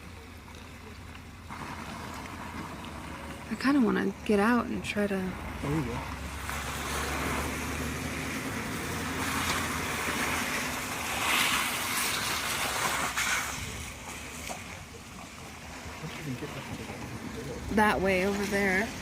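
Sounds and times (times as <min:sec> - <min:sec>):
tyre and road noise: 0:00.0 - 0:19.0
vehicle engine hum: 0:00.0 - 0:19.0.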